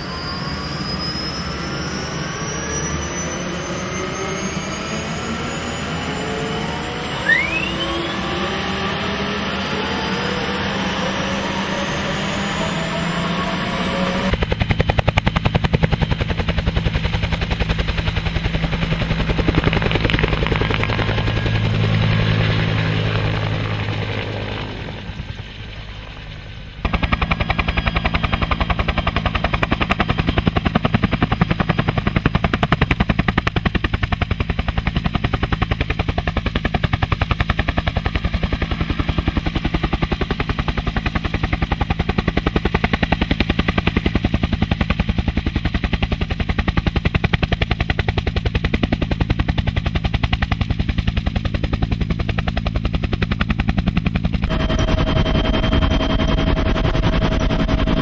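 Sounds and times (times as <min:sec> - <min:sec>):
helicopter rotor chop overhead: 0:00.0 - 0:58.0
helicopter turbine and rotor: 0:00.0 - 0:58.0.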